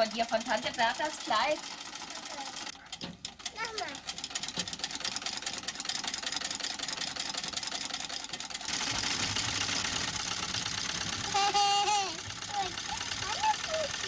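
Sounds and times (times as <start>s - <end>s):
sewing machine stitching: 0.0s - 14.0s.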